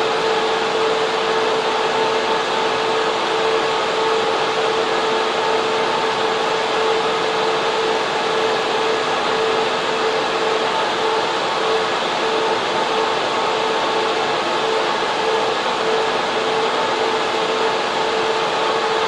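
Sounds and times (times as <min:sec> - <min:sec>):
fan whine: 0:00.0 - 0:19.0.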